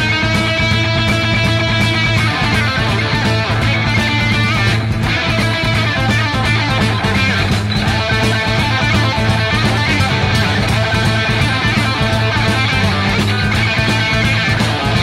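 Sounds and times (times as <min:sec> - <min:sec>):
bass line: 0:00.0 - 0:15.0
drums: 0:00.0 - 0:15.0
electric guitar: 0:00.0 - 0:15.0.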